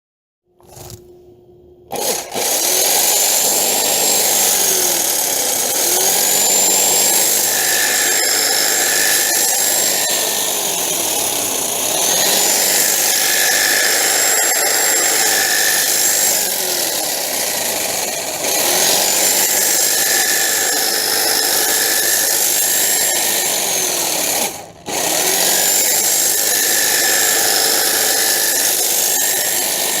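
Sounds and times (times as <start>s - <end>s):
hedge trimmer running: 1.9s - 30.0s.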